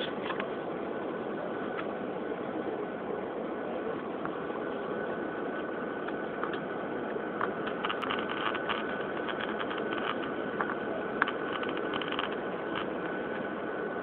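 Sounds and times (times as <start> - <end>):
jet engine roar in cabin: 0.0 - 14.0.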